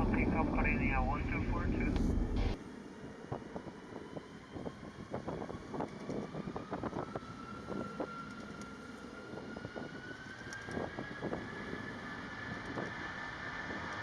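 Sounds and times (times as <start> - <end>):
jet engines spooling up: 0.0 - 14.0
wind buffeting microphone: 0.0 - 14.0.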